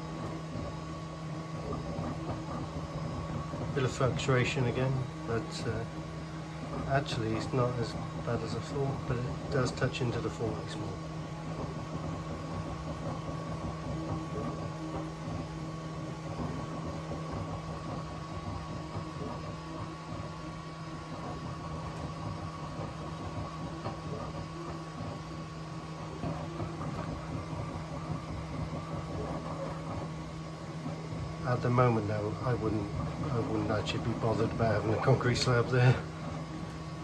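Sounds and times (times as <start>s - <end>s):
three d printer humming: 0.0s - 37.0s.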